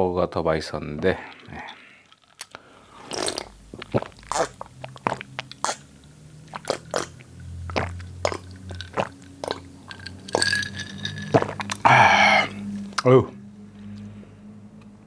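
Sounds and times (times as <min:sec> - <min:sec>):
sipping and swallowing soda: 0:01.0 - 0:14.1.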